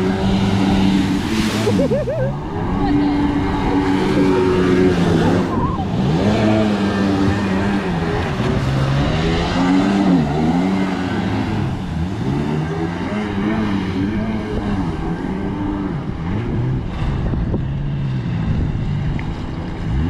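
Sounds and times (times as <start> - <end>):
boat spray: 0.0 - 20.0
two-stroke engine revving: 0.0 - 20.0.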